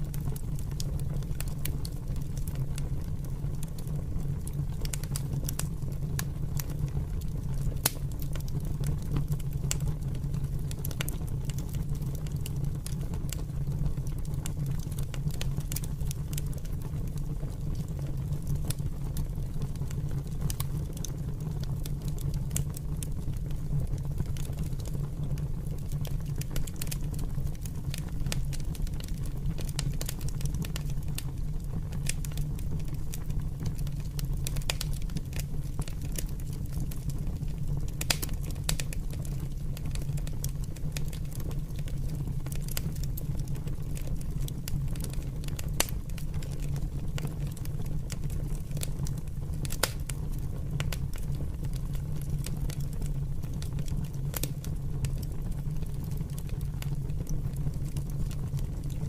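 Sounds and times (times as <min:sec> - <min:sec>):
fire crackling and popping: 0:00.0 - 0:59.0
fire rumbling: 0:00.0 - 0:59.0.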